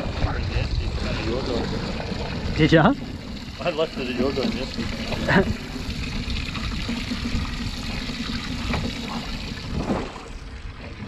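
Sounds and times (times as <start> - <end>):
water sloshing around boat: 0.0 - 11.0.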